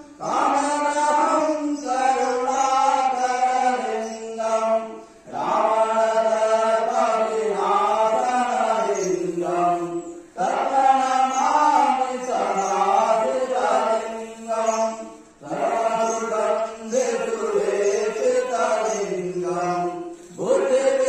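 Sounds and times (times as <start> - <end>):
person chanting a hymn: 0.0 - 21.0.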